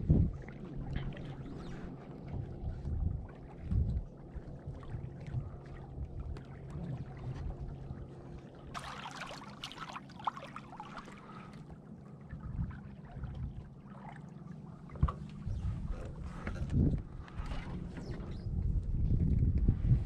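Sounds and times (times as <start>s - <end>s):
wind rumble on microphone: 0.0s - 8.8s, 11.6s - 20.0s
water splashing along hull: 0.0s - 20.0s.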